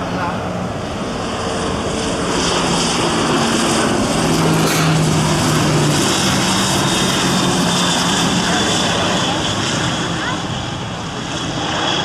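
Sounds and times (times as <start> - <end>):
propeller engine drone: 0.0 - 12.0.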